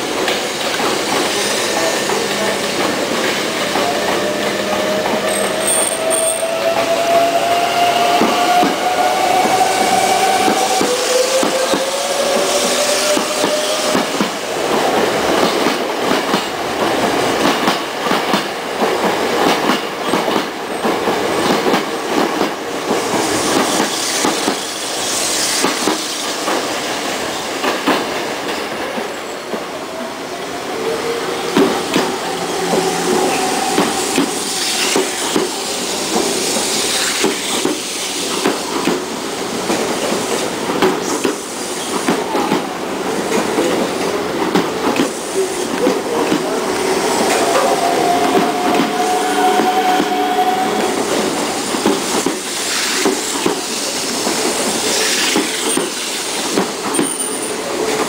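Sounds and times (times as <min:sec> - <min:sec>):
train wheels clattering: 0:00.0 - 0:29.7, 0:31.4 - 0:58.0.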